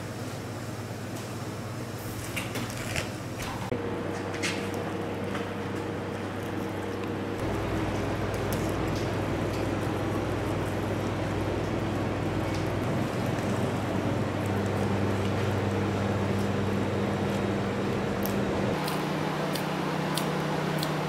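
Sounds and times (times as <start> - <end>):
low machine hum: 3.1 - 21.0.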